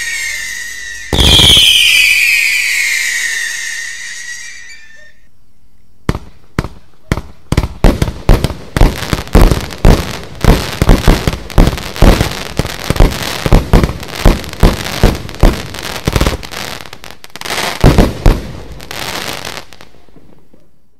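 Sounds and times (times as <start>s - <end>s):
firework bangs: 0.0s - 5.0s, 6.1s - 20.6s
firework crackling: 0.0s - 5.1s, 6.1s - 20.0s.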